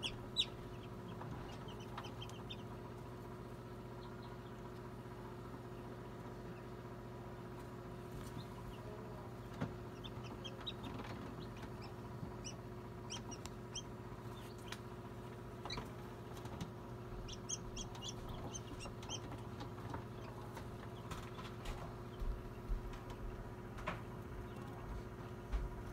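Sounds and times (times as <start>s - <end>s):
chicks peeping: 0.0s - 25.9s
incubator hum: 0.0s - 25.9s.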